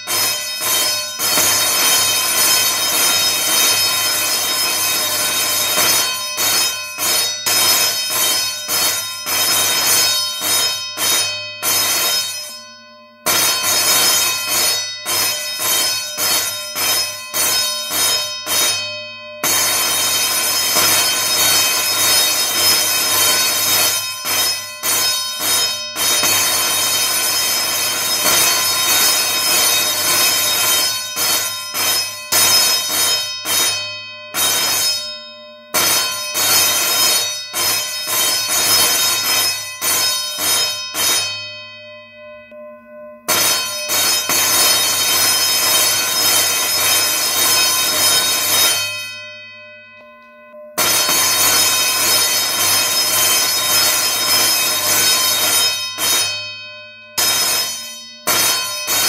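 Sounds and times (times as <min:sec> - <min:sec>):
electric school bell ringing: 0:00.0 - 0:59.0.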